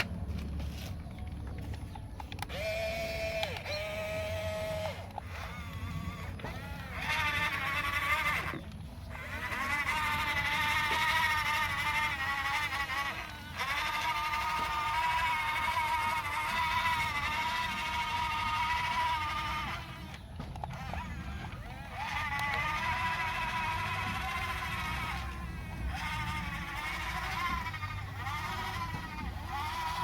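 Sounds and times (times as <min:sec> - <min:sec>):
electric motors whining: 0:00.0 - 0:30.0.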